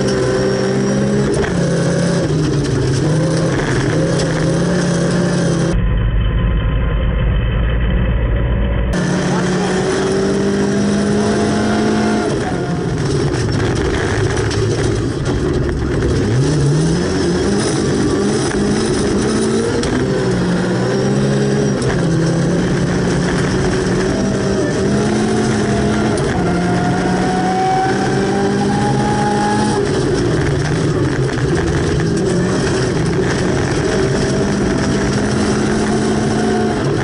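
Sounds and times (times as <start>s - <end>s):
rally car engine from inside: 0.0s - 37.0s.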